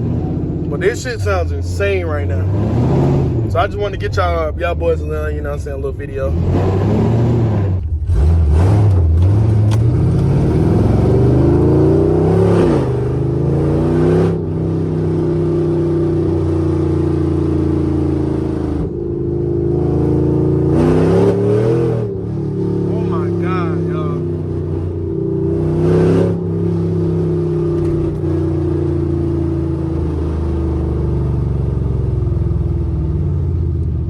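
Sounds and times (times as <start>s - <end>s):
loud car engine revving: 0.0s - 34.0s.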